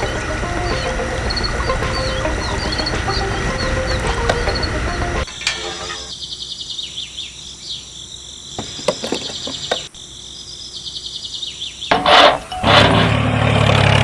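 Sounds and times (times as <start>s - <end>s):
high chirping: 0.0s - 11.9s.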